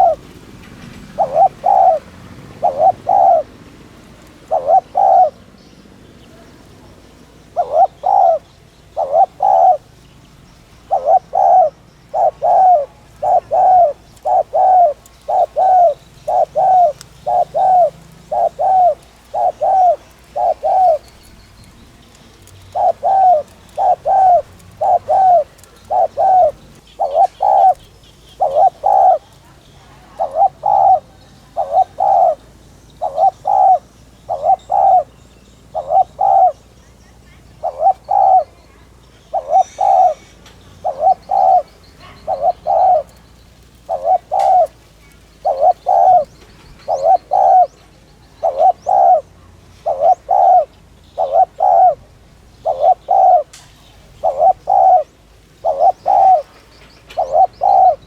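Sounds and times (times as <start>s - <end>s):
dove cooing: 0.0s - 58.0s
faint bird chirps: 4.5s - 58.0s.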